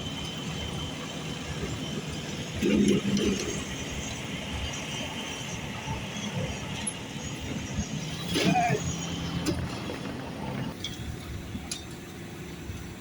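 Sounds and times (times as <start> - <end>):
construction machinery noise: 0.0 - 13.0.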